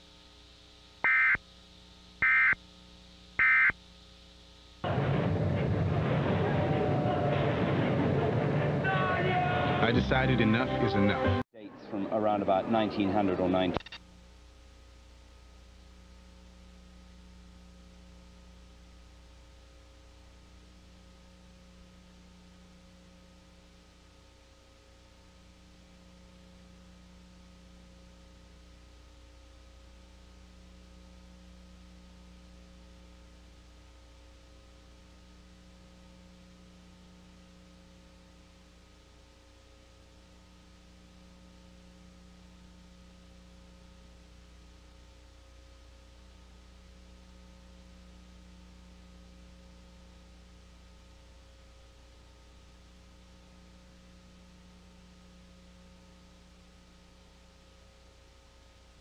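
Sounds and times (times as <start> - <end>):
low buzz: 0.0 - 8.8, 14.0 - 59.0
electrical mains hum: 0.0 - 59.0.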